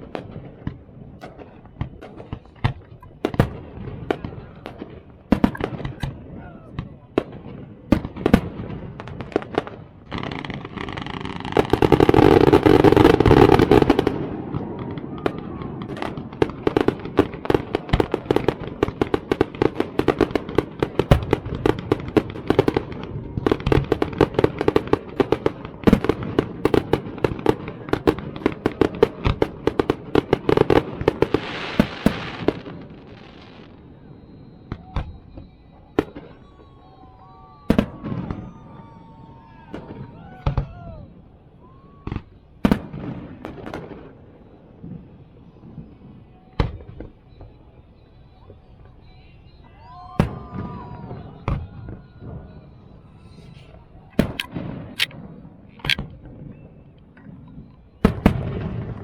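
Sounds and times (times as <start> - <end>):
fireworks popping and crackling: 0.0 - 59.0
fireworks rushing: 0.0 - 59.0.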